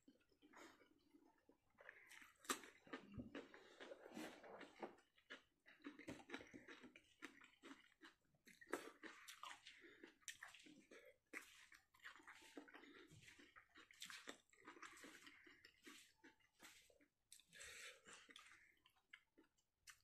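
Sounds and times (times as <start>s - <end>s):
wet chewing and lip-smacking: 0.3s - 20.0s.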